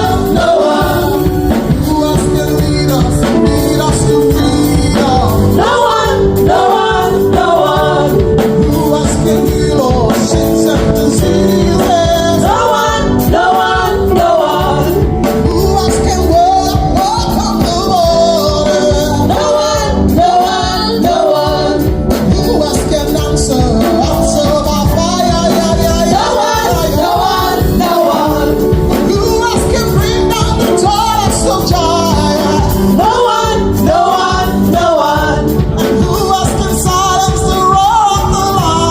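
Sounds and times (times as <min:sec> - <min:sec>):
live band playing: 0:00.0 - 0:38.9
people singing praise song: 0:00.0 - 0:38.9
steady drum beat: 0:00.0 - 0:38.9.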